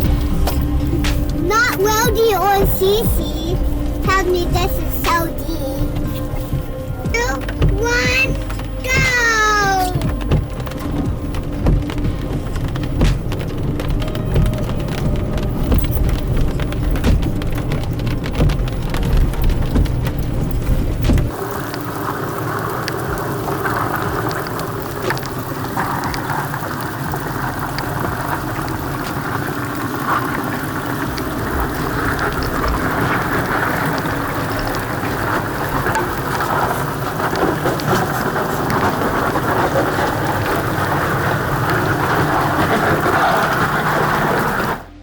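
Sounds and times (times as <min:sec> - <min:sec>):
engine rumble: 0:00.0 - 0:45.0
water rushing and splashing: 0:00.0 - 0:45.0.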